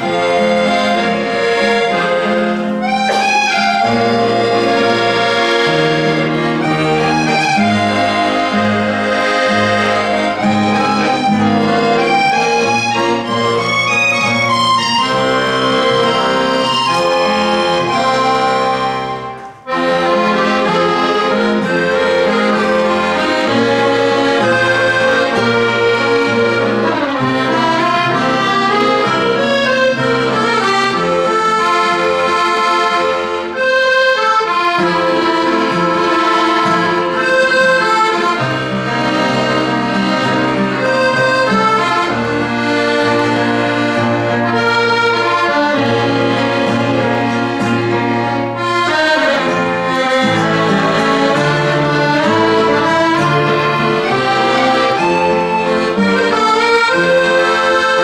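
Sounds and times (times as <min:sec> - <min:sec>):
accordion playing: 0:00.0 - 0:58.0
acoustic guitar playing: 0:00.0 - 0:58.0.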